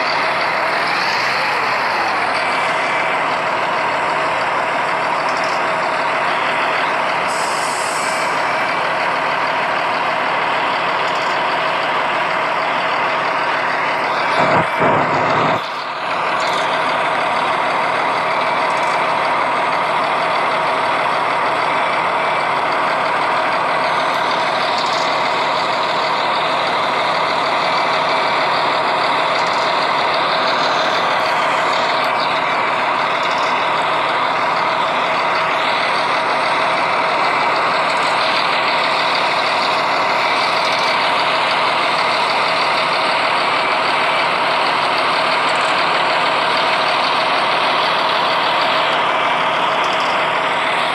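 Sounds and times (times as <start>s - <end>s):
traffic on wet road: 0.0s - 50.9s.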